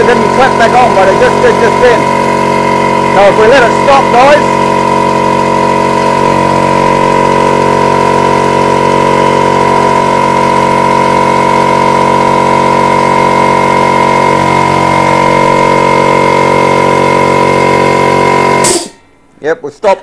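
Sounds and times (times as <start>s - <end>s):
air compressor whining: 0.0s - 19.4s.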